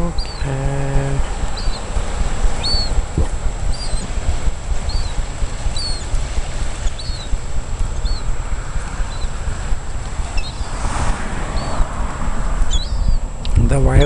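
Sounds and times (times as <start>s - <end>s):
small bird chirping: 0.0s - 11.9s, 12.6s - 13.3s
wind rumbling on microphone: 0.0s - 14.0s.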